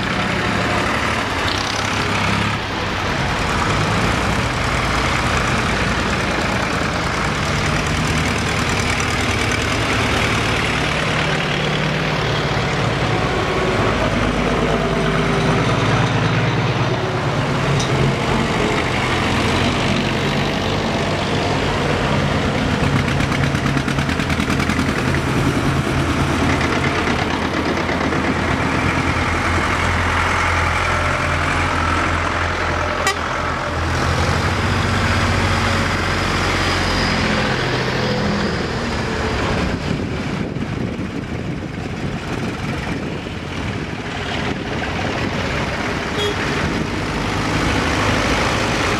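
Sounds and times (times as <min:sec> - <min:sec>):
tractor engines passing: 0:00.0 - 0:48.9.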